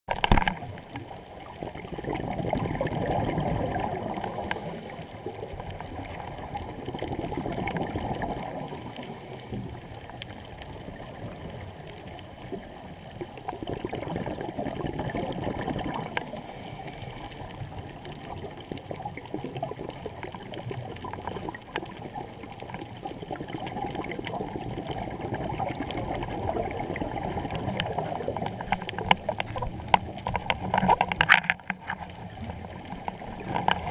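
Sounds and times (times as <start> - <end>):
water gurgling and splashing: 0.1 - 33.9.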